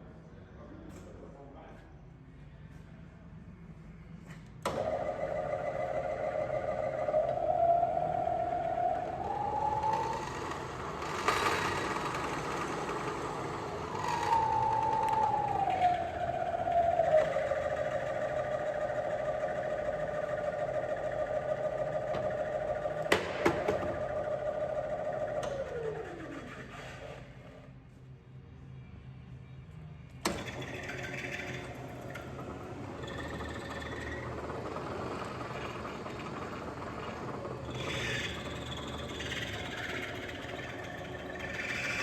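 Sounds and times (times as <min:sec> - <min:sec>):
drill press whining: 0:04.2 - 0:27.7, 0:30.1 - 0:42.0.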